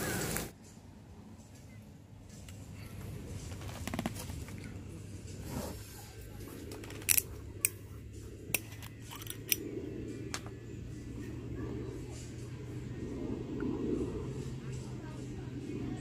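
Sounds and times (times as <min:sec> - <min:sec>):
low steady hum: 0:00.2 - 0:16.0.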